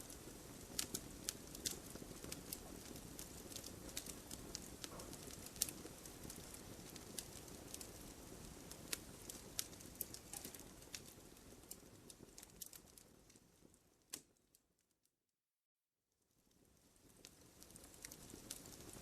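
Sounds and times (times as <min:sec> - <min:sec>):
firewood crackling and popping: 0:00.0 - 0:14.6, 0:16.2 - 0:19.0
flame rustling: 0:00.0 - 0:14.6, 0:16.4 - 0:19.0.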